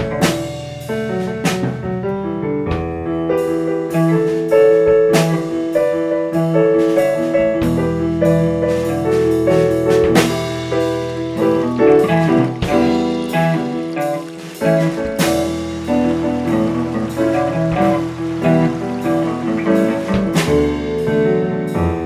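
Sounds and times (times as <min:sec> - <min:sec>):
drums: 0:00.0 - 0:22.0
piano music: 0:00.0 - 0:22.0.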